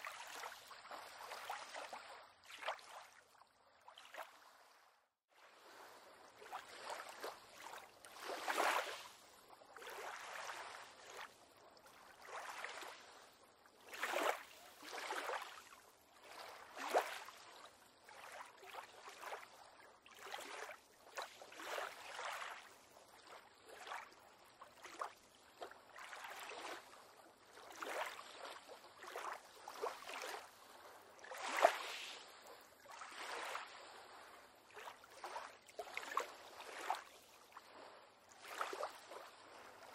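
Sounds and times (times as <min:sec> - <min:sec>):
small waves lapping against a pier: 0:00.0 - 0:39.9.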